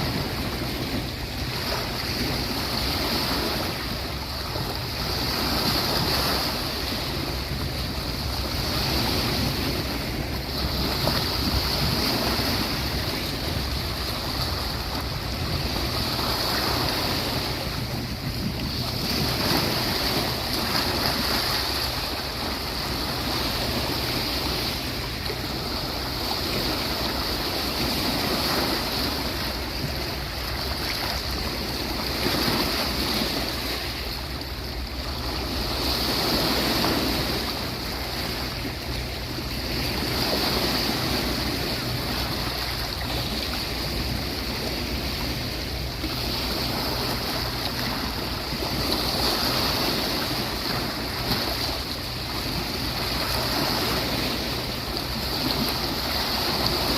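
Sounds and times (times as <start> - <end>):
sea waves washing onto beach: 0.0 - 56.9.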